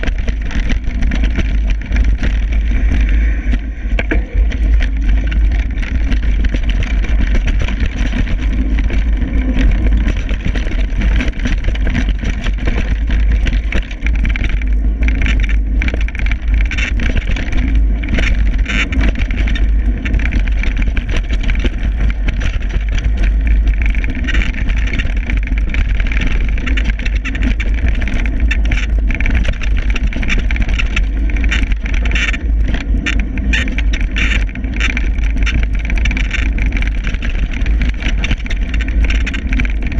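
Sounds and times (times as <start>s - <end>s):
bike rattling over rough trail: 0.0s - 39.9s.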